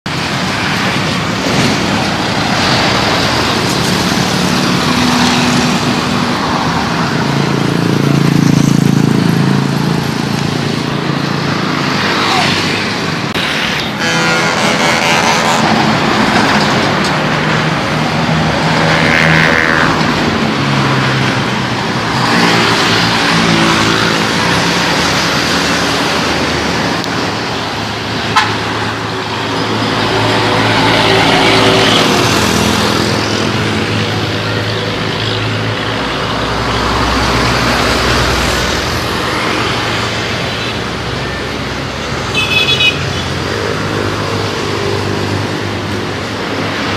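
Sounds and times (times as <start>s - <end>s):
vehicles passing on highway: 0.1s - 46.9s.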